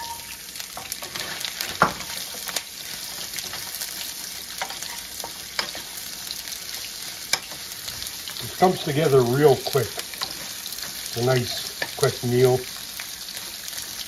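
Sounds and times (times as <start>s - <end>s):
vegetables sizzling in hot oil: 0.0s - 14.0s
wooden spoon stirring in pan: 0.8s - 14.0s.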